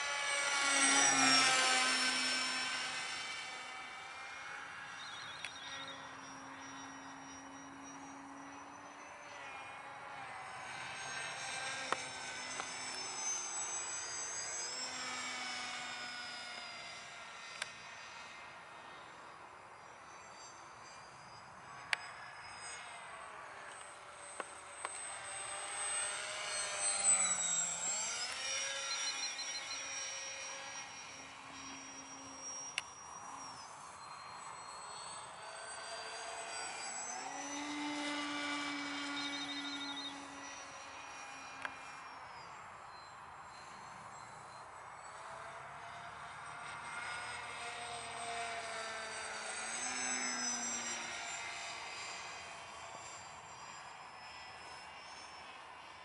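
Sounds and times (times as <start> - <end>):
electric motor propeller whine: 0.0 - 56.0.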